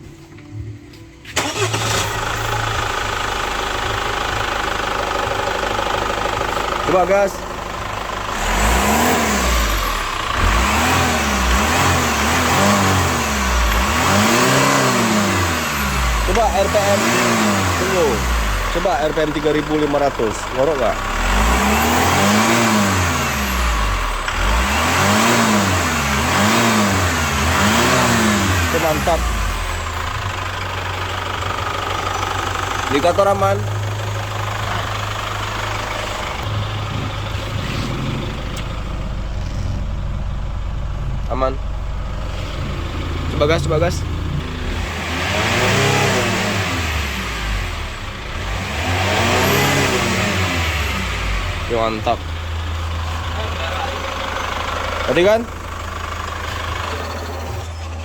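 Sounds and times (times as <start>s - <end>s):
diesel engine starting and idling: 0.0s - 58.0s.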